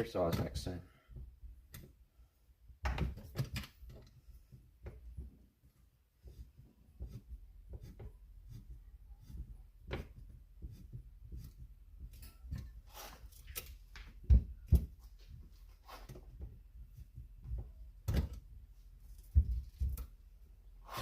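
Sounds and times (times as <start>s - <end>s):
clicks and knocks of hand work: 2.8s - 8.7s, 9.3s - 20.3s.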